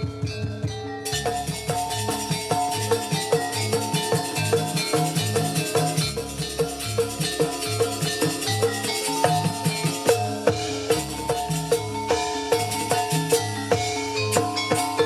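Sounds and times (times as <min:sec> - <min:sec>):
hand drums: 0:00.0 - 0:15.0
struck metal pitched percussion: 0:00.0 - 0:15.0.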